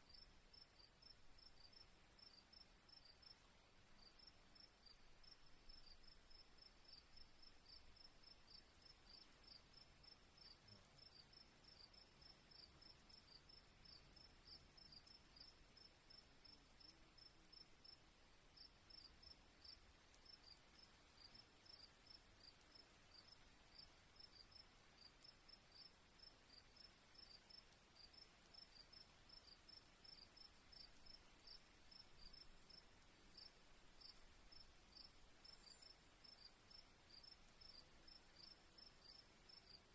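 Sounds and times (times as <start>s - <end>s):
crickets chirping: 0.1s - 18.0s, 18.6s - 39.9s.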